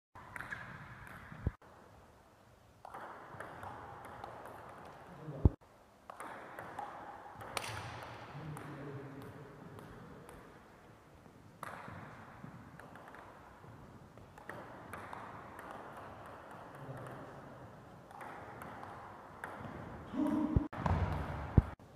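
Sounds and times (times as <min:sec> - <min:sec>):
ping pong ball clicking off paddles: 0:00.2 - 0:01.6, 0:02.8 - 0:10.8, 0:11.6 - 0:20.0.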